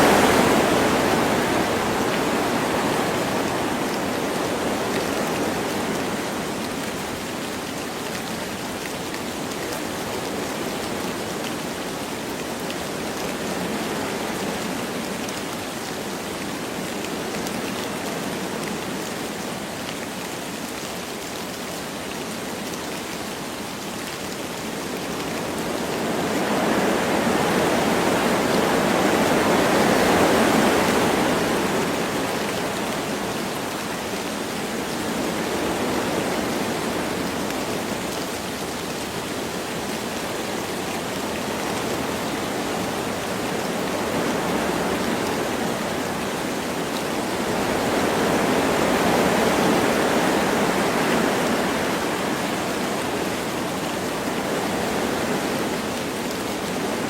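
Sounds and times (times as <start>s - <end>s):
light rain: 0.0s - 57.0s
wind blowing through trees: 0.0s - 57.0s.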